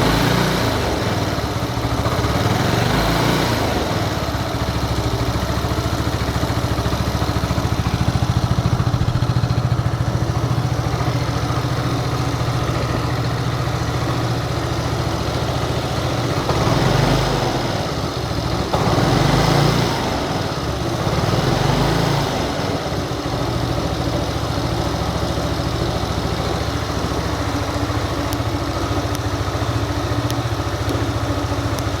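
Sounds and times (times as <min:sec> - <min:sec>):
scooter engine idling: 0:00.0 - 0:32.0.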